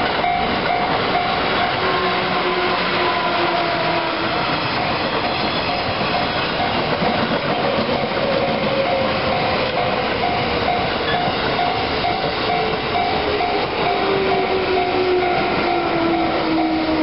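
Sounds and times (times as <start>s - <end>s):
electric train rolling past: 0.0s - 17.0s
level crossing warning bell: 0.0s - 17.0s
wheels clickety-clack on track: 0.0s - 17.0s.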